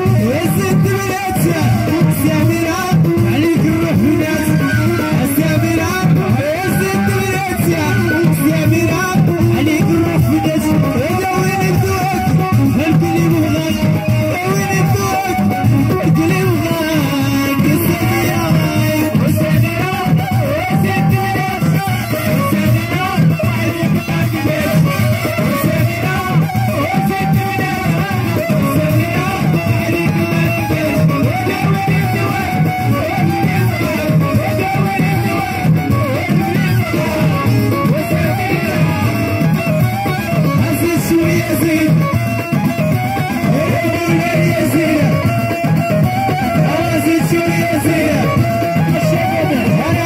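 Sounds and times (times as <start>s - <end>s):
drum rhythm: 0.0s - 50.0s.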